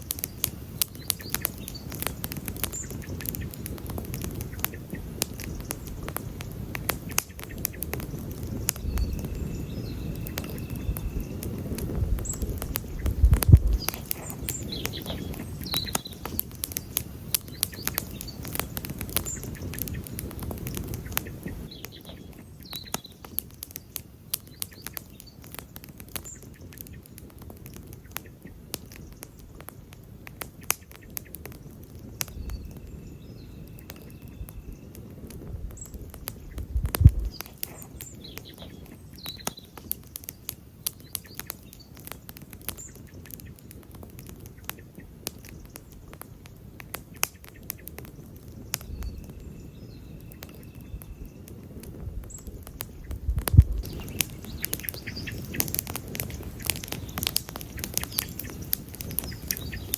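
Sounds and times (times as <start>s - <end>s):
campfire pops and snaps: 0.0s - 59.9s
low rush of flames: 0.0s - 59.9s.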